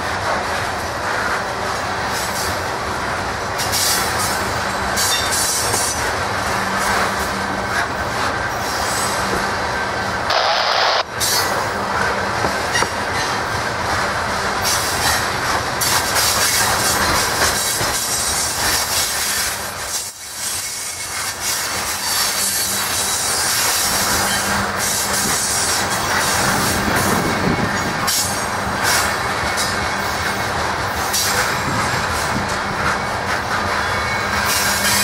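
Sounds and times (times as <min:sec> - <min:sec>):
freight train cars rolling on rails: 0:00.0 - 0:35.0.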